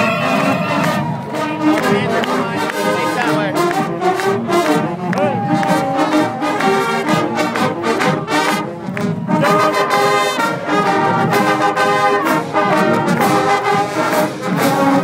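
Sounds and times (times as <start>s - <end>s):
brass band playing chords: 0.0s - 15.0s.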